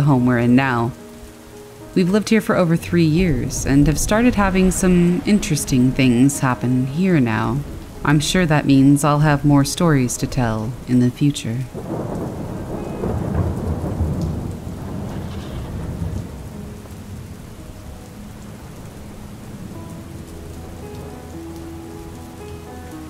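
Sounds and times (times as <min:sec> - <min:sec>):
steady rain falling: 0:00.0 - 0:23.0
thunder rumbling: 0:00.6 - 0:22.1.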